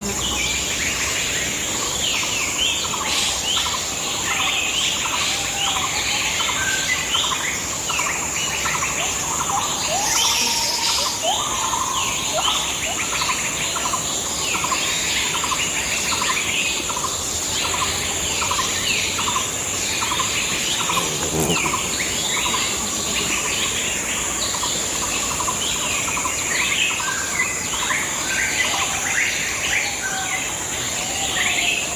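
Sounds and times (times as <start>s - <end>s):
forest birds chirping: 0.0s - 31.9s.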